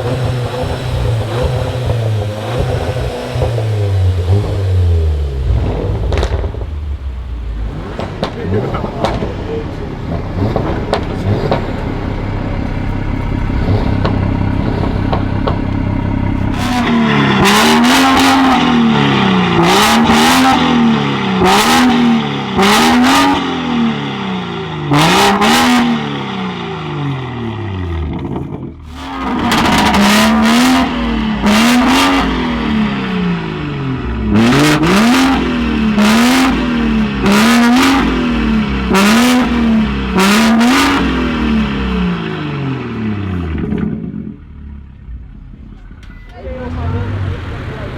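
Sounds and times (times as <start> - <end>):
exhaust cracks: 0.0 - 24.2, 24.9 - 47.9
car engine idling and revving: 0.0 - 47.9.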